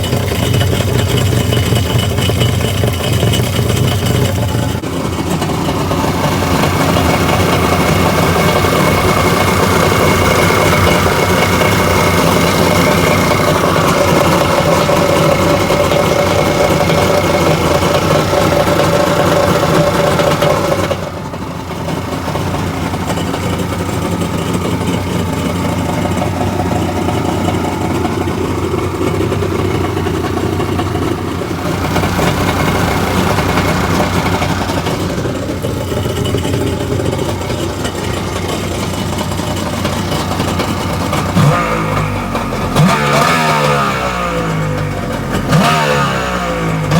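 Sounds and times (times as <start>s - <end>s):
jet ski engine running: 0.0s - 46.9s.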